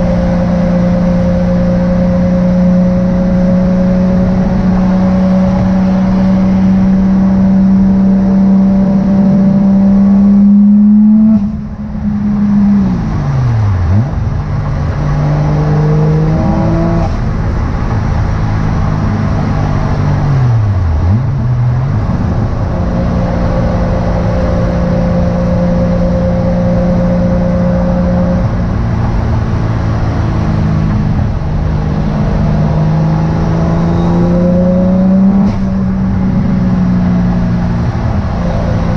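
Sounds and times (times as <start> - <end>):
turbocharged engine running: 0.0 - 38.9.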